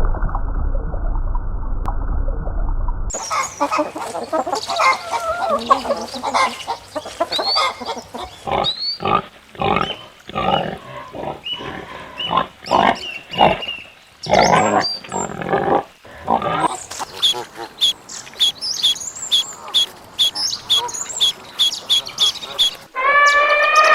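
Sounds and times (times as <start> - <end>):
pig calls: 3.1 - 23.9.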